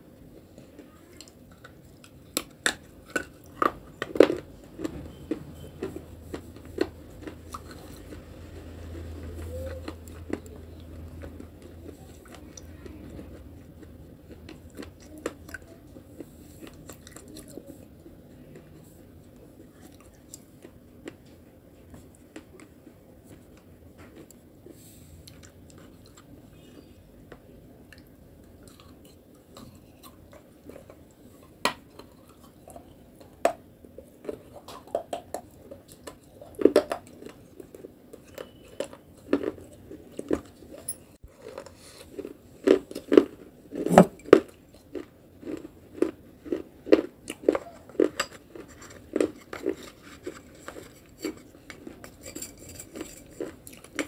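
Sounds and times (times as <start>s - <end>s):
mouth chewing and smacking: 0.3s - 54.0s.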